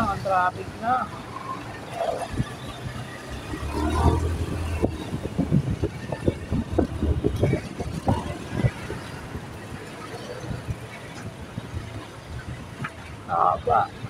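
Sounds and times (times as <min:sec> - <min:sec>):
vehicle road hum: 0:00.0 - 0:14.0.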